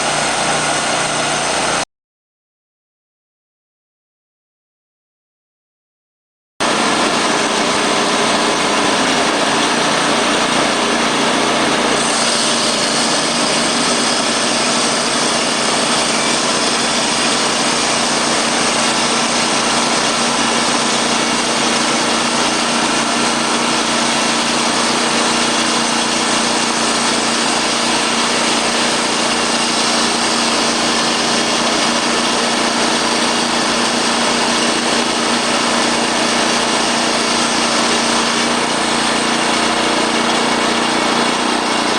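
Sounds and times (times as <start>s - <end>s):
sawmill engine running: 0.0s - 1.8s, 6.6s - 41.9s.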